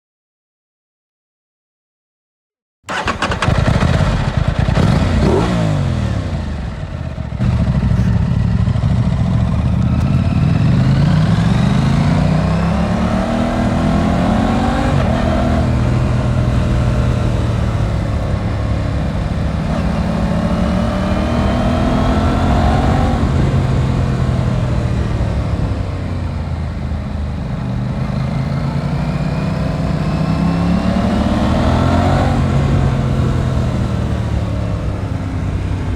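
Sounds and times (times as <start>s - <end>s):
motorcycle engine accelerating: 2.9s - 35.9s.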